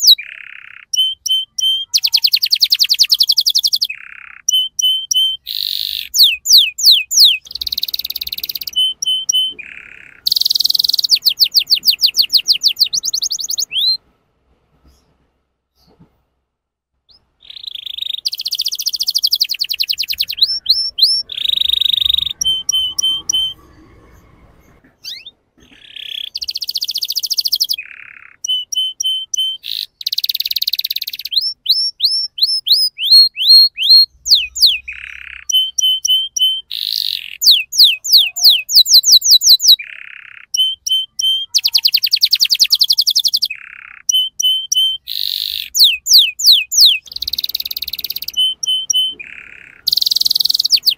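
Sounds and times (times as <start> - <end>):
canary singing trills: 0.0 - 14.0, 17.1 - 50.9.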